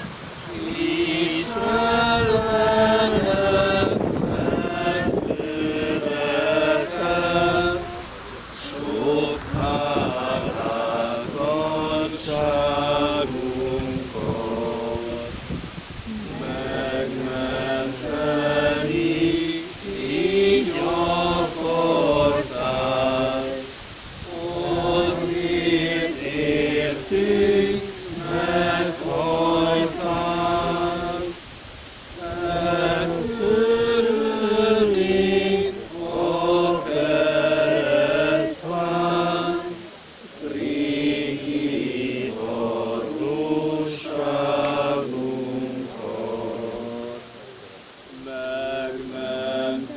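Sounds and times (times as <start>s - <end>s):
group singing a slow hymn: 0.0s - 49.9s.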